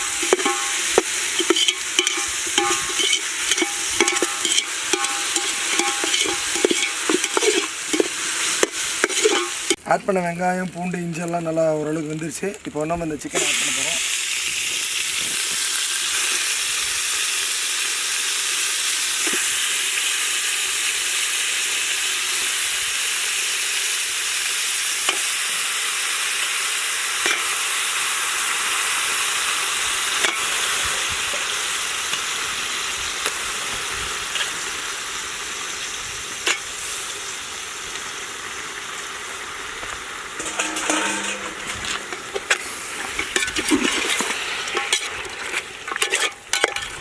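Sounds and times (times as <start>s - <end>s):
chicken sizzling in hot oil: 0.0s - 9.8s, 11.1s - 47.0s.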